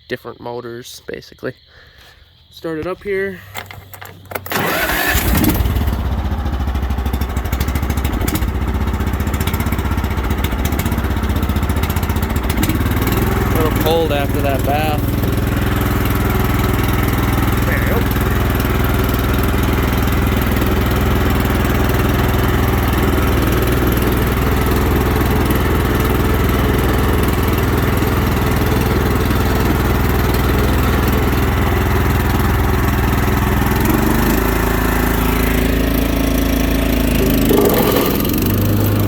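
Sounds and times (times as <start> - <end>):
riding mower engine running: 2.8 - 39.0.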